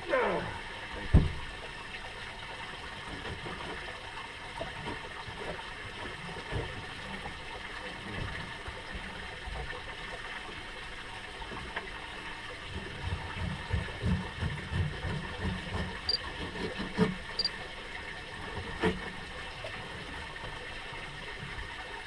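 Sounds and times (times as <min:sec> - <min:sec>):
water around a boat: 0:00.0 - 0:22.0.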